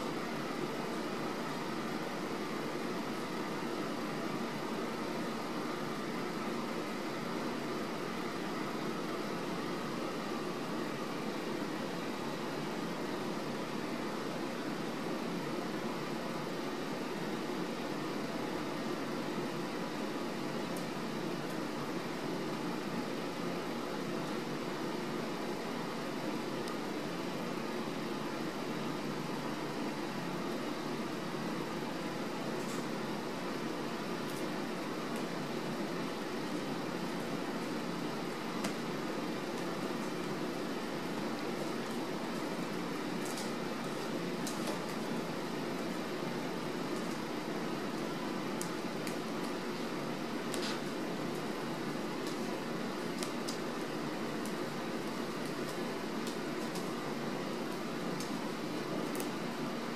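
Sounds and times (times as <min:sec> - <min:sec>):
room hiss and low hum: 0:00.0 - 0:59.9.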